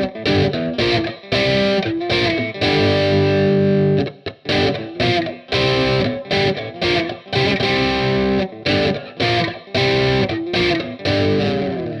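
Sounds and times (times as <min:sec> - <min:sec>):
electric guitar choppy chords: 0:00.0 - 0:12.0.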